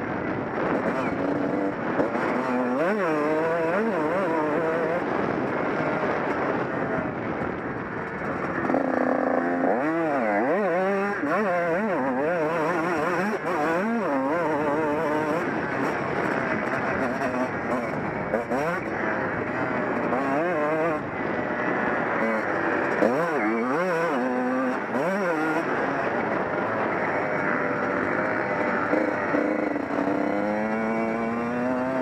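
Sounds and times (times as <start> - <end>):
motorcycle engine revving: 0.0 - 32.0
wind and track noise: 0.0 - 32.0.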